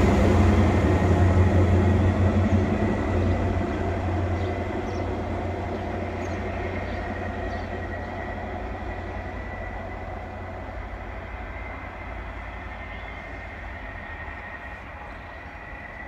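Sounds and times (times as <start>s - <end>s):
diesel train engine rumble: 0.0s - 16.0s.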